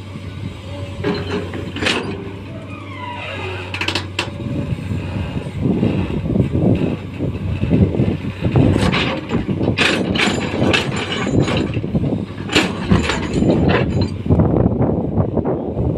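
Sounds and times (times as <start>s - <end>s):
excavator engine running under load: 0.0s - 15.7s.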